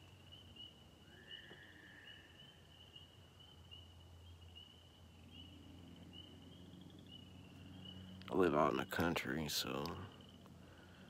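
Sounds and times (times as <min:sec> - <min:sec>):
crickets chirping: 0:00.0 - 0:11.0
low steady hum: 0:00.0 - 0:11.0.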